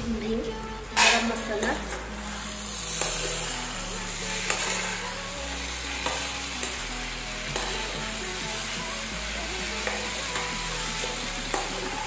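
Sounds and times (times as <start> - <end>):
food sizzling in hot oil: 0.7 - 12.0.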